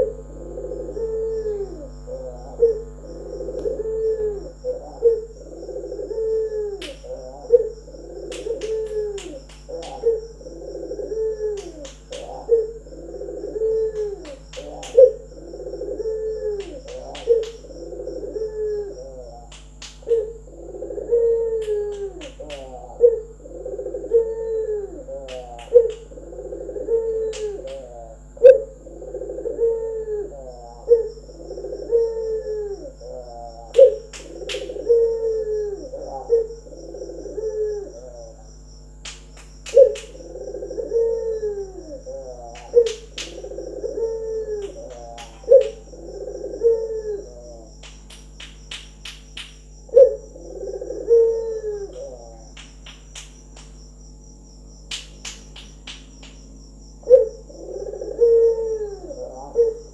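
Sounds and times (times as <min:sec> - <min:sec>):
dove cooing: 0:00.0 - 0:53.8, 0:54.9 - 0:59.9.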